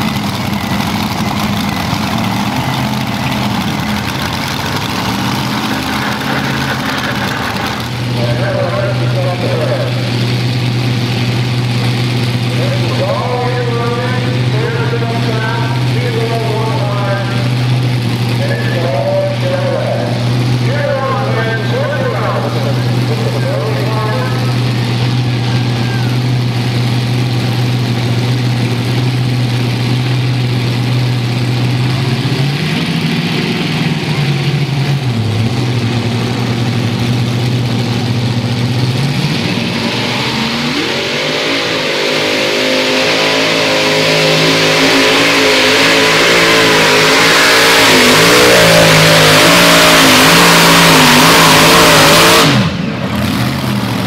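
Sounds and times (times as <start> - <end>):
tractor engines idling: 0.0 - 54.0
tractor engines revving at full throttle: 0.0 - 54.0.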